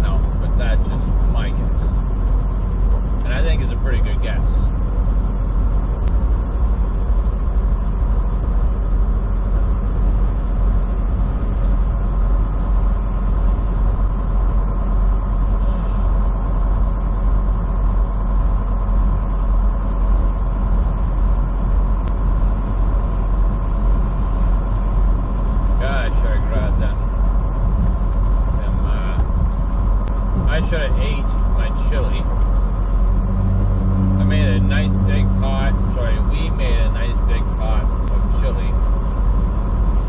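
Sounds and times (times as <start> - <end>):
engine drone: 0.0 - 40.0
road rumble: 0.0 - 40.0.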